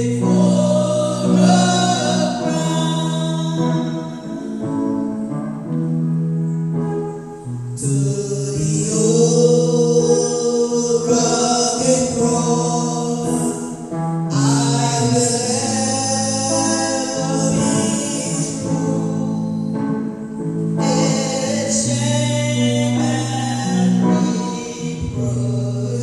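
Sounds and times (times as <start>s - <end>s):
gospel singing: 0.0s - 5.2s, 7.8s - 26.0s
instrumental accompaniment: 0.0s - 26.0s.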